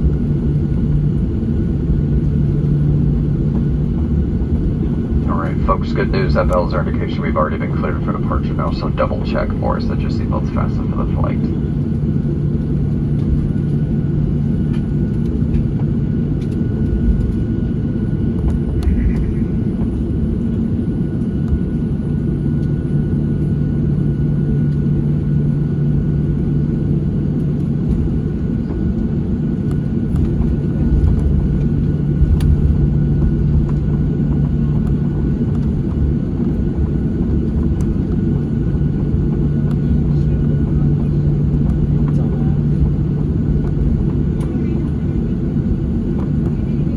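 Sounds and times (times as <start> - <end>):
constant hum: 0.0 - 46.9
jet engine cabin rumble: 0.0 - 46.9.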